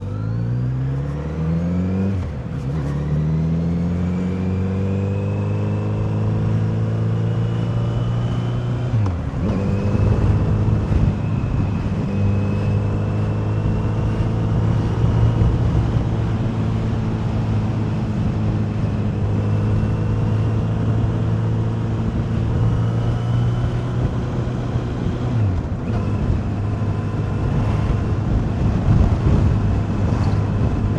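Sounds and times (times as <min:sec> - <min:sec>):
motorcycle engine running: 0:05.4 - 0:30.9.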